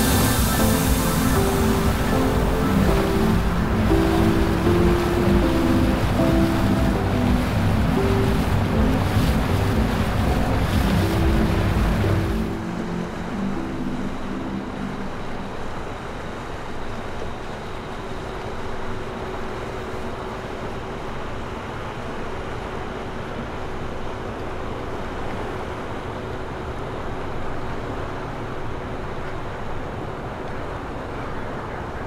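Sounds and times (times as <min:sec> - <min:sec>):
boat engines rumbling: 0:00.0 - 0:32.0
faint steady hum: 0:00.0 - 0:32.0
water wash: 0:00.0 - 0:32.0.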